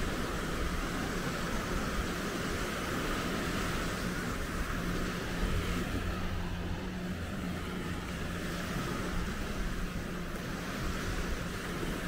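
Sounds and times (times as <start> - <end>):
low engine drone: 0.0 - 12.0
surf: 0.0 - 12.0
wind: 0.0 - 12.0.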